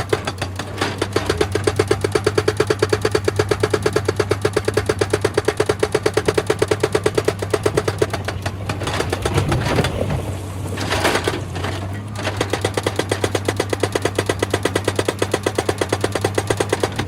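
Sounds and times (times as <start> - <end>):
diesel engine running: 0.0 - 17.0
hydraulic breaker hammering stone: 0.0 - 17.0.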